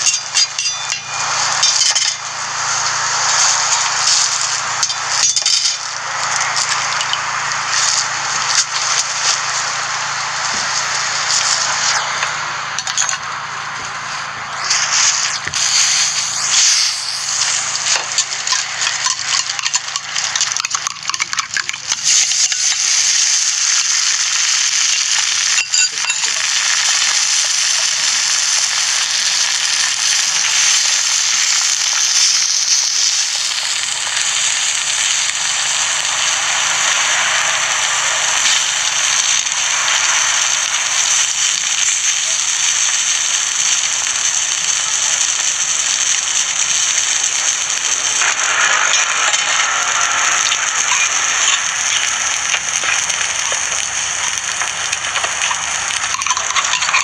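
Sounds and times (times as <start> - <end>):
food sizzling on a griddle: 0.0 - 57.0.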